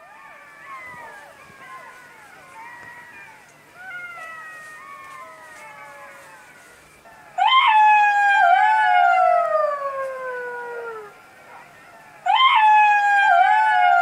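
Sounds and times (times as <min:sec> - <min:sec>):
jackals howling: 0:00.0 - 0:14.0.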